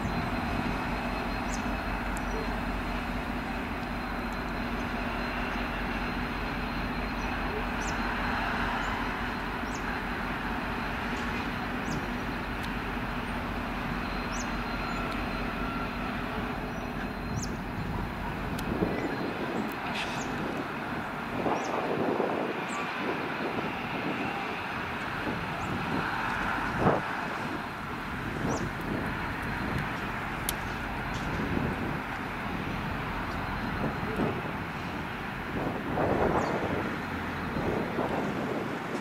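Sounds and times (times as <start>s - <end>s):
diesel locomotive running: 0.0s - 39.0s
train wheels rumbling on track: 0.0s - 39.0s.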